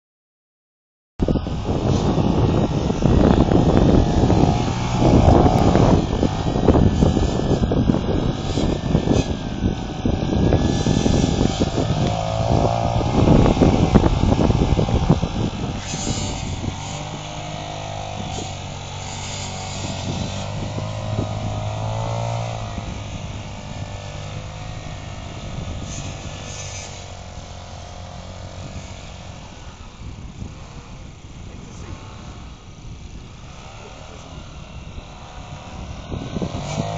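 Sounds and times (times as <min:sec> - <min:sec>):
quad bike engine revving: 0:01.2 - 0:36.9.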